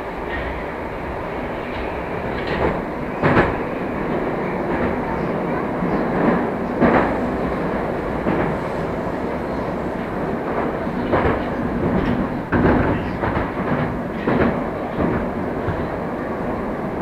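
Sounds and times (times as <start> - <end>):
train rumbling in tunnel: 0.0 - 17.0.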